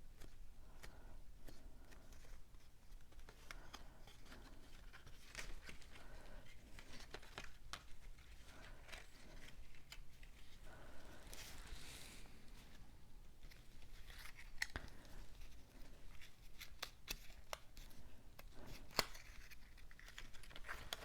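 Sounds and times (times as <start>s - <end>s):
paper rustling: 0.2s - 21.0s.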